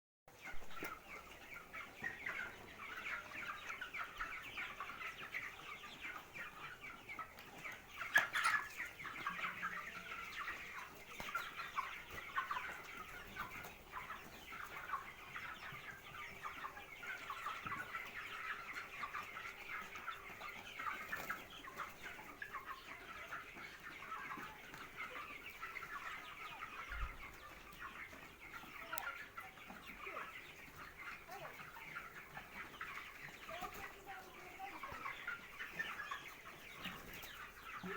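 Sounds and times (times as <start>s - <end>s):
chickens clucking: 0.3s - 37.9s.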